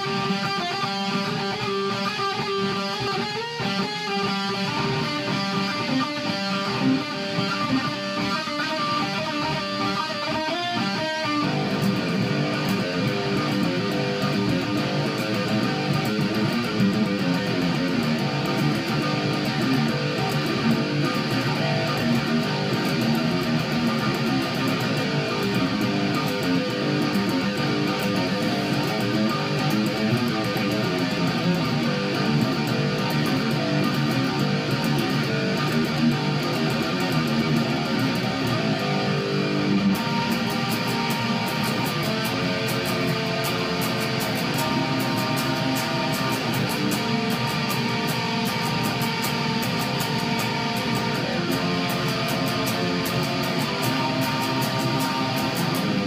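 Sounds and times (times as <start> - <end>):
electric guitar instrumental: 0.0 - 56.0.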